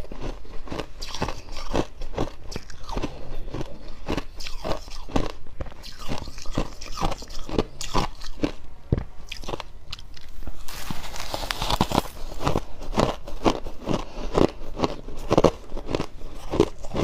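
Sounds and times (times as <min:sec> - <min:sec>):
frost being chewed: 0:00.0 - 0:17.0.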